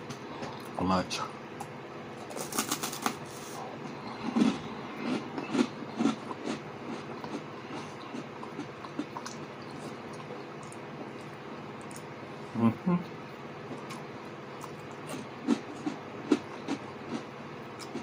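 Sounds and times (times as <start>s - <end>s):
steady low hum: 0.0s - 18.0s
crunchy chewing of toast: 1.6s - 12.3s, 13.6s - 18.0s.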